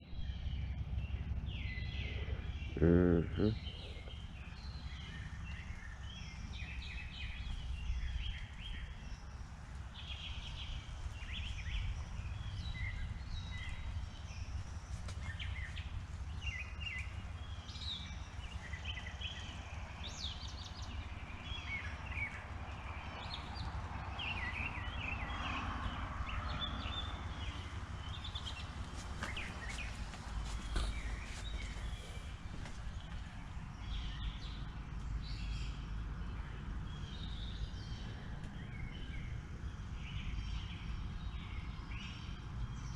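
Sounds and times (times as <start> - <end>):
low outdoor rumble: 0.0 - 42.9
songbirds chirping: 0.0 - 42.9.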